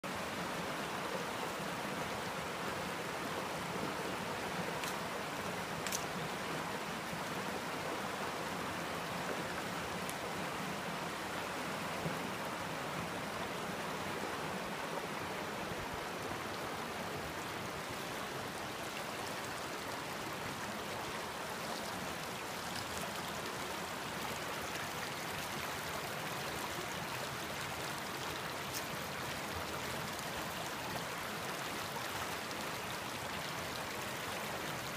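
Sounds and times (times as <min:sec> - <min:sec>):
creek water running over rocks: 0:00.0 - 0:34.9.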